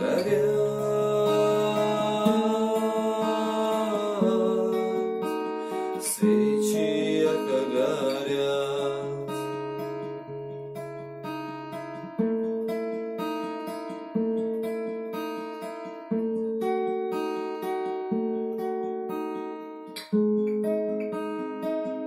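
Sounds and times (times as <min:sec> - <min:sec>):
acoustic guitar chords ringing: 0:00.0 - 0:22.0.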